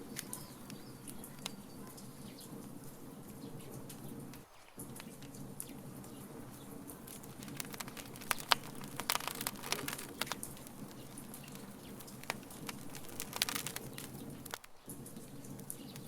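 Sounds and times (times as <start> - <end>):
low rustle of flame: 0.0 - 16.0
wood fire crackling and popping: 0.0 - 16.0.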